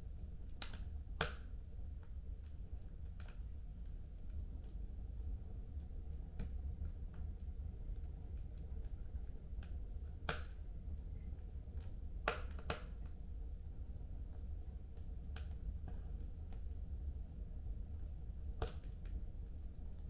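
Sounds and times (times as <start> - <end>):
fire crackling: 0.0 - 20.0
low fire rumble: 0.0 - 20.0.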